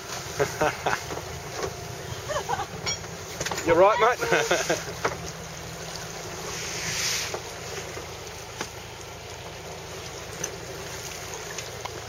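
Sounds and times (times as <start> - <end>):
sea rushing: 0.0 - 12.0.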